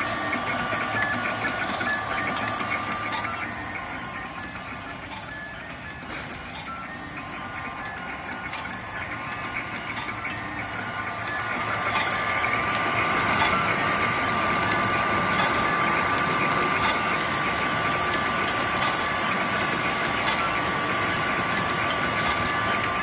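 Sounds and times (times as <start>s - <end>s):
machine whine: 0.0s - 23.0s.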